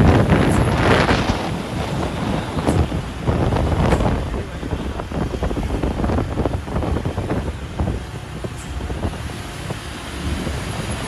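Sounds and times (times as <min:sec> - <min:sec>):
heavy vehicles passing: 0:00.0 - 0:11.0
wind buffeting microphone: 0:00.0 - 0:11.0.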